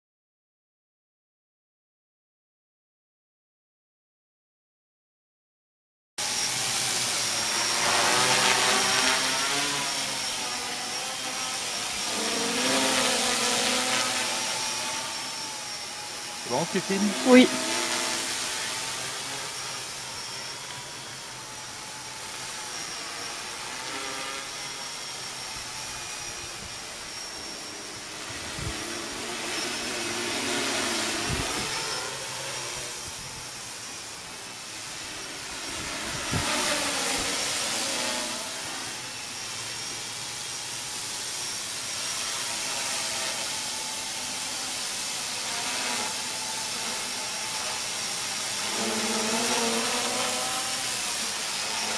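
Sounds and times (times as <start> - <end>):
drone propellers whirring: 6.2 - 51.9.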